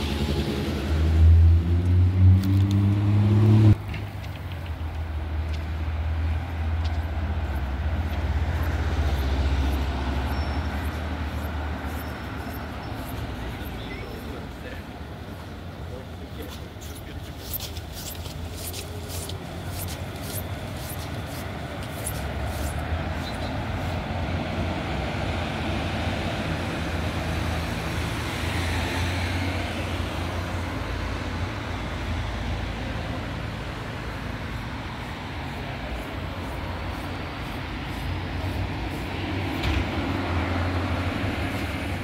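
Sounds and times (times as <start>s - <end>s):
low traffic hum: 0.0s - 42.0s
trolleybus passing: 0.0s - 42.0s.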